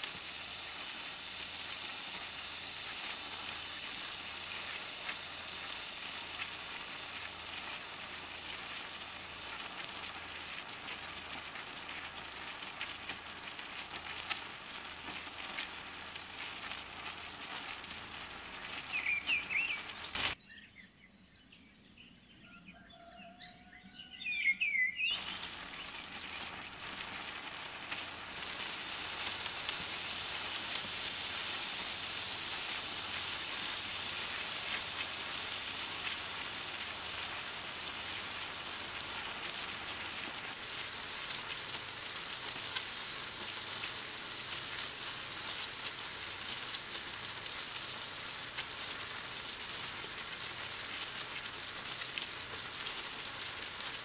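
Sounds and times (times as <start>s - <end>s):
food sizzling in a frying pan: 0.0s - 20.4s, 25.1s - 54.0s.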